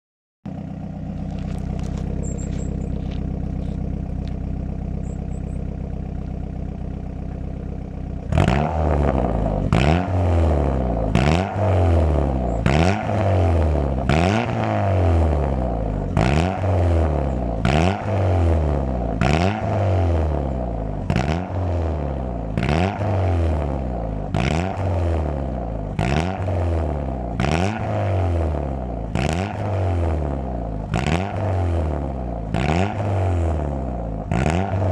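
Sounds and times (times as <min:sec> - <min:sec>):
car engine idling: 0:00.5 - 0:34.9
engine revving: 0:00.5 - 0:34.9.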